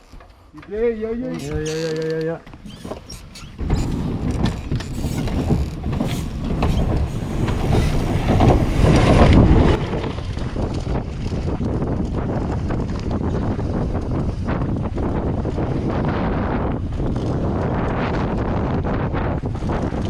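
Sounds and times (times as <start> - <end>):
wind rushing over microphone: 2.4 - 20.0
bike tyre roar and clattering: 2.5 - 20.0.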